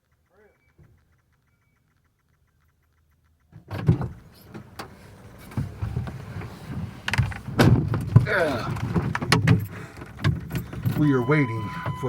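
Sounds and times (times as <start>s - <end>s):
faint fast ticking: 0.0s - 12.0s
knocks clicks and rustling: 0.0s - 12.0s.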